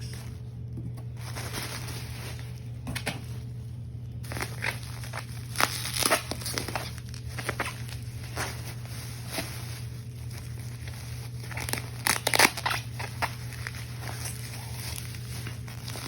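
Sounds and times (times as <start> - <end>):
packaging rustling and crinkling: 0.0 - 3.6, 4.2 - 16.0
steady low hum: 0.0 - 16.0.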